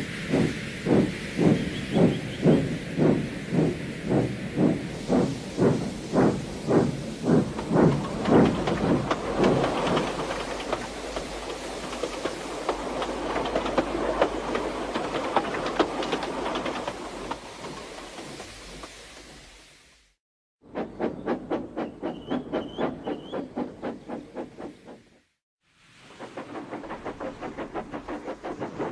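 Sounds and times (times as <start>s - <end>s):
steam locomotive chuffing: 0.0s - 19.6s, 20.6s - 25.2s, 26.0s - 28.9s
rush of steam and running gear: 0.0s - 20.2s, 20.8s - 28.9s.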